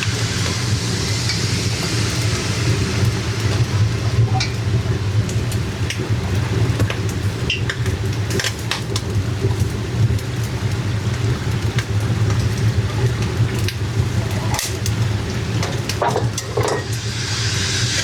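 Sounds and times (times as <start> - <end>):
dough sizzling in hot oil: 0.0 - 18.0
oil crackles: 0.1 - 18.0.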